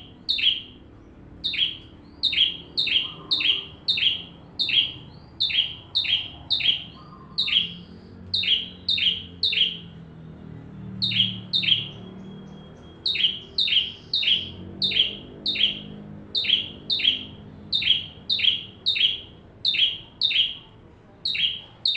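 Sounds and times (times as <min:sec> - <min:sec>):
bird sharp downward chirps: 0:00.0 - 0:10.1, 0:10.8 - 0:21.9.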